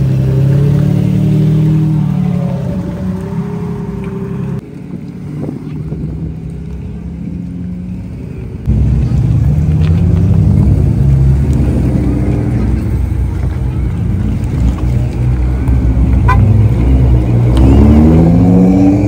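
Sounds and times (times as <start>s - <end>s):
car engine pulling away: 0.0s - 19.0s.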